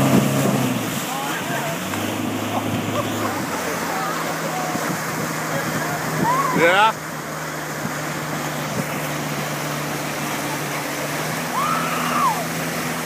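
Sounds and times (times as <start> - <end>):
motorboat engine running: 0.0 - 13.0
water rushing: 0.0 - 13.0.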